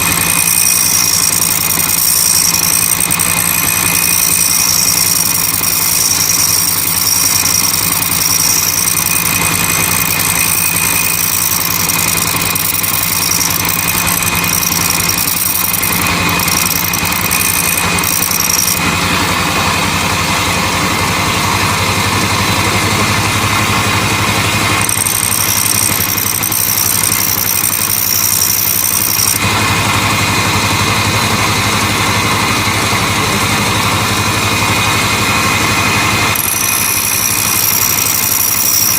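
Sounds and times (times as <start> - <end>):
high-pitched blade grinding: 0.0 - 19.9, 21.3 - 38.9
electric grinder motor hum: 0.0 - 38.9.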